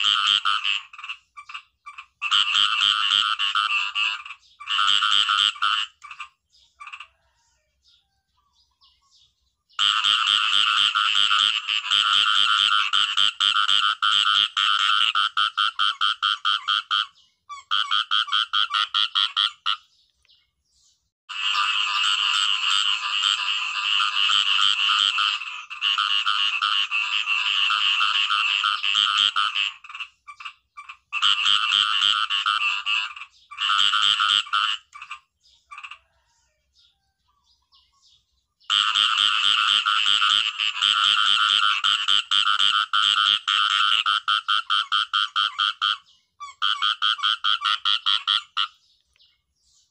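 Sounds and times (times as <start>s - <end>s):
frogs calling in rapid pulses: 0.0s - 7.4s, 9.8s - 19.8s, 21.3s - 36.3s, 38.7s - 48.8s.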